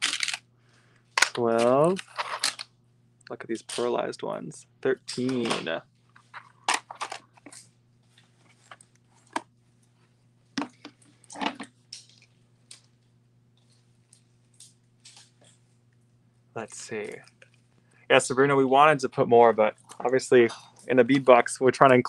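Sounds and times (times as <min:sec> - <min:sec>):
faint electrical hum: 0:00.0 - 0:22.0.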